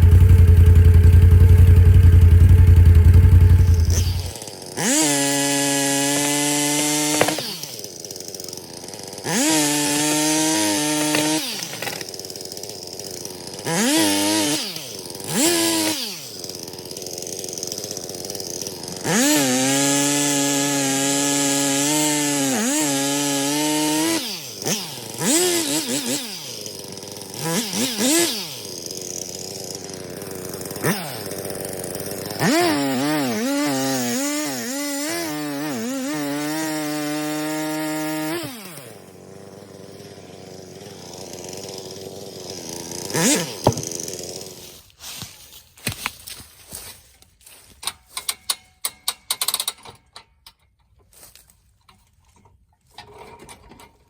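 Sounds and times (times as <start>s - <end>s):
chainsaw revving: 0.0s - 46.0s.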